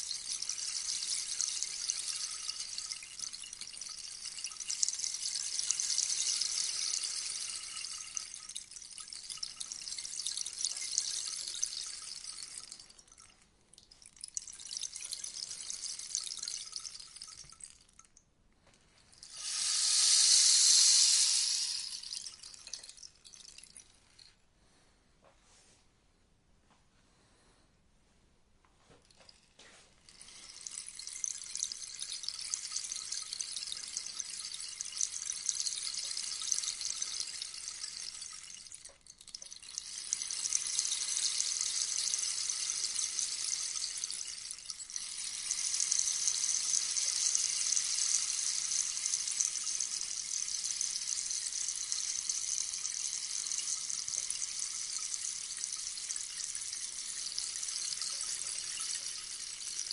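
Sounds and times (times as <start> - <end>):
rainstick pellets trickling: 0.0 - 18.2, 18.8 - 24.4, 29.0 - 59.9.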